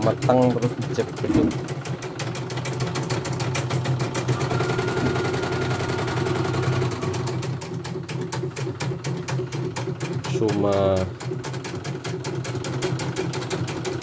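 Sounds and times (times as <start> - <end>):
machine motor humming: 0.0 - 14.0.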